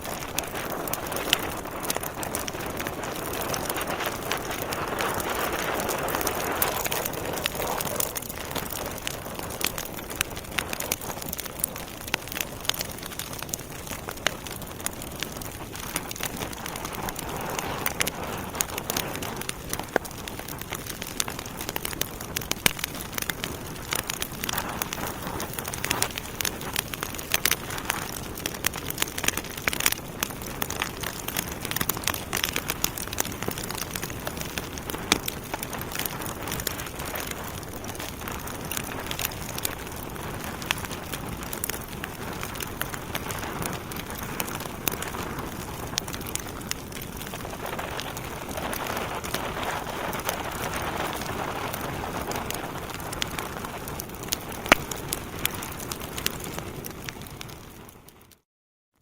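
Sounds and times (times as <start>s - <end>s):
fire hissing: 0.0s - 56.3s
logs crackling and popping: 0.0s - 58.4s.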